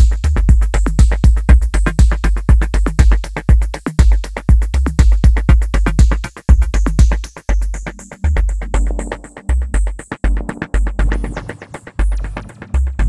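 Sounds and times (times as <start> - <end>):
bass kick pulses: 0.0 - 13.0
drum machine hi-hat ticks: 0.0 - 13.0.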